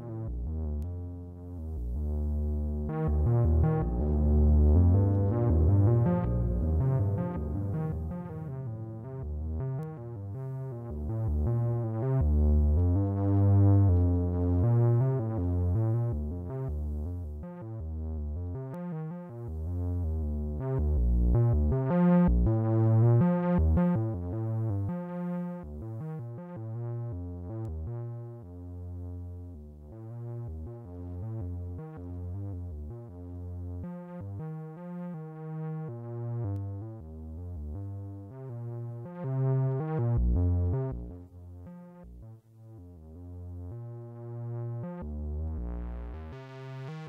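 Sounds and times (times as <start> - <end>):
analogue synthesizer notes: 0.0 - 47.0.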